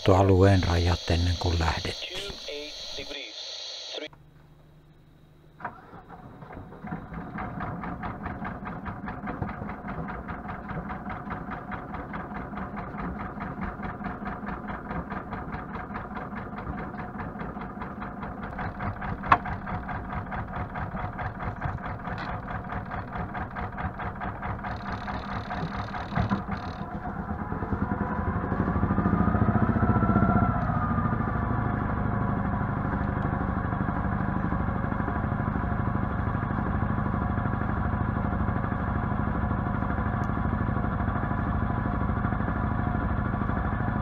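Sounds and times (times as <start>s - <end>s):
boat engine idling with fast knocking: 5.7s - 44.0s.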